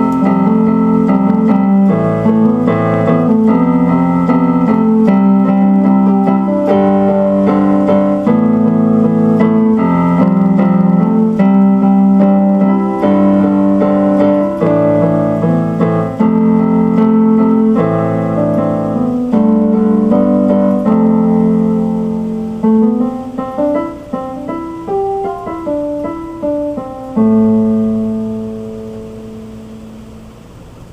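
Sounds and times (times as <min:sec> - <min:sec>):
electric keyboard piano music: 0:00.0 - 0:30.9.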